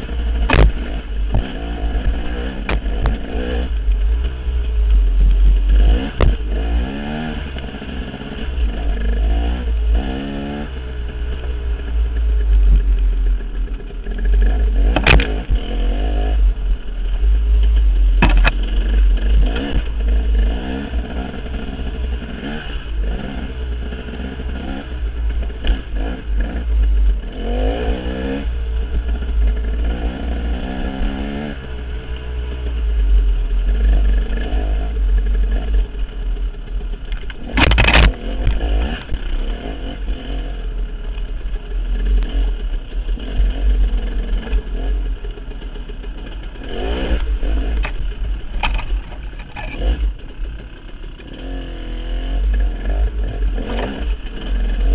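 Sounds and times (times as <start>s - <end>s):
dirt bike engine revving: 0.0s - 54.9s
heavy low rumble: 0.0s - 54.9s.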